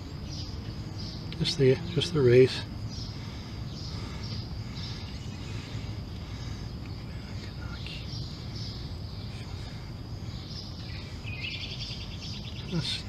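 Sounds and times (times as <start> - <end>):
faint bird chirps: 0.0 - 13.0
steady low outdoor noise: 0.0 - 13.0.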